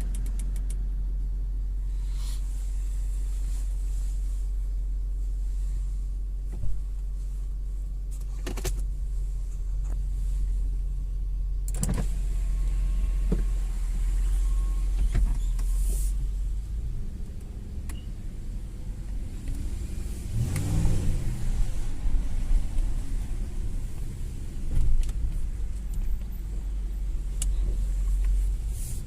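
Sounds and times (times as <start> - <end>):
car rumbling on the move: 0.0 - 29.0.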